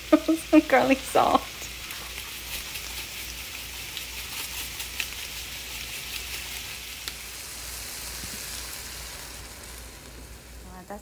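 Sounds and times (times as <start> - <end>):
water poured into hot pan: 0.0 - 10.7
vegetables sizzling in oil: 0.0 - 11.0.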